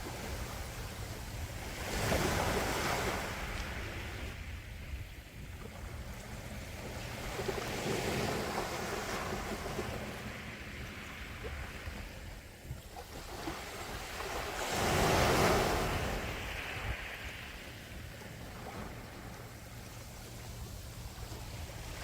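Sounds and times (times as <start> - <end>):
sea waves washing ashore: 0.0 - 22.0.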